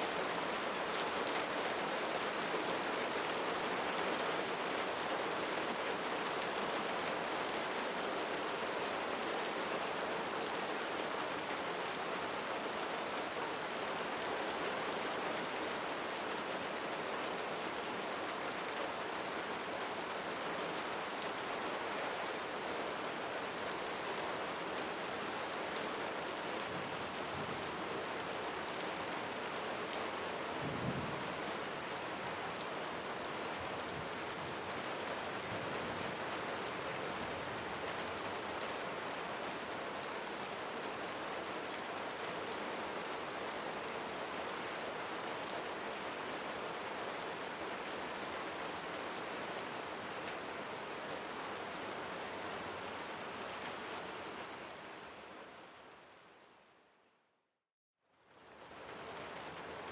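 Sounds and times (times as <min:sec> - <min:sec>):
rain falling on leaves: 0:00.0 - 0:57.1, 0:58.0 - 0:59.9.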